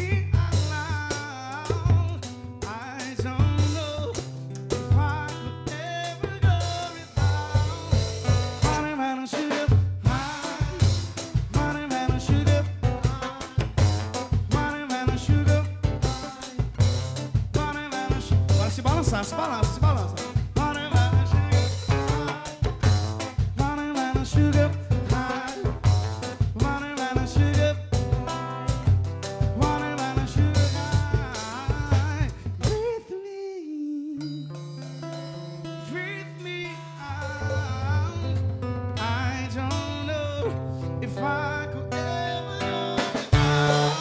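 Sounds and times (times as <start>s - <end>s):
pop band music: 0.0s - 44.0s.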